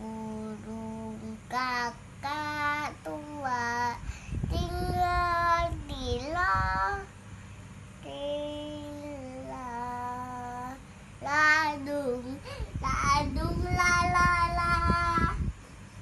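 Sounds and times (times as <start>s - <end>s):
child singing: 0.0s - 7.1s, 8.0s - 15.4s.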